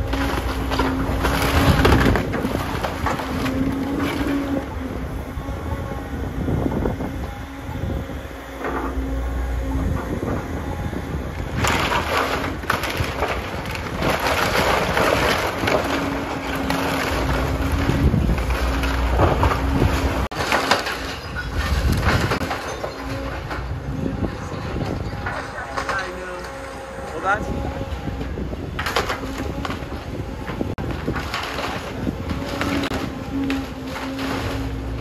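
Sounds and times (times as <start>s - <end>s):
excavator engine humming: 0.0s - 35.0s
timber and rubble crunching: 0.0s - 35.0s.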